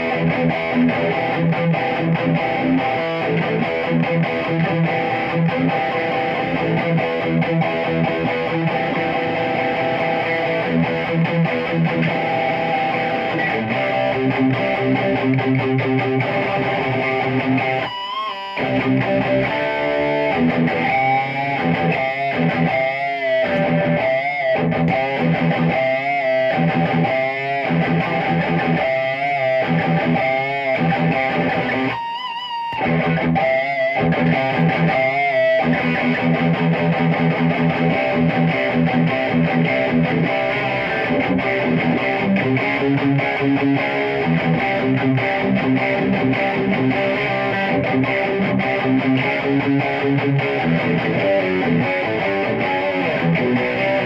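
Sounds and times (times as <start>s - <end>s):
electric guitar chords: 0.0s - 54.0s.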